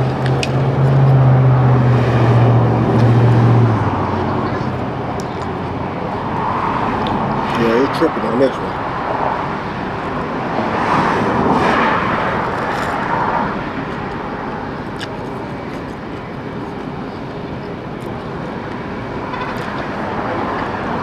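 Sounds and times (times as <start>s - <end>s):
car noise hum and hiss: 0.0s - 21.0s.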